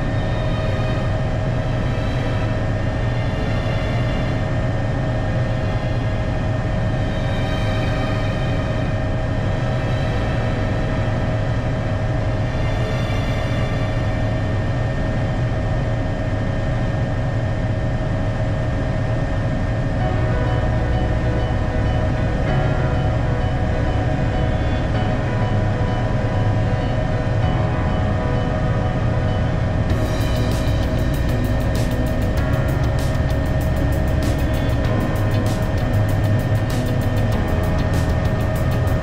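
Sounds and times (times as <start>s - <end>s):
helicopter cabin drone: 0.0s - 39.0s.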